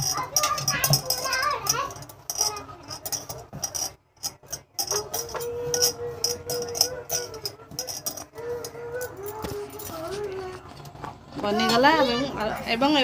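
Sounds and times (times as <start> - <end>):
bangles clinking against steel bowl: 0.0 - 13.0.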